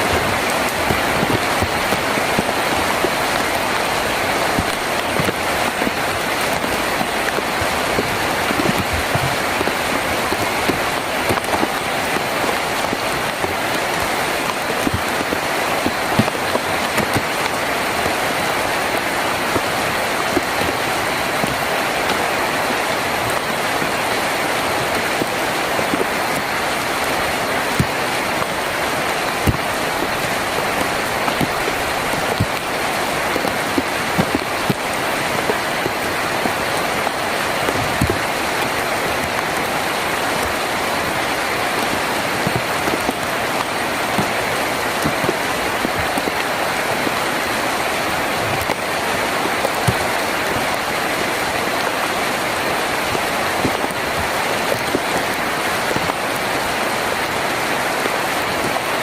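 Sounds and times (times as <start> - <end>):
heavy rain on a tin roof: 0.0 - 59.0.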